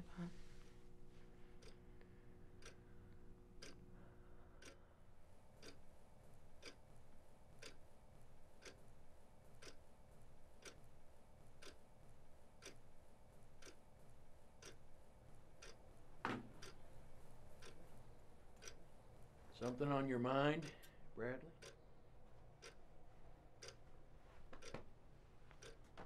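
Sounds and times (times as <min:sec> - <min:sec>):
low room hum: 0:00.0 - 0:26.0
wall clock ticking: 0:01.5 - 0:26.0.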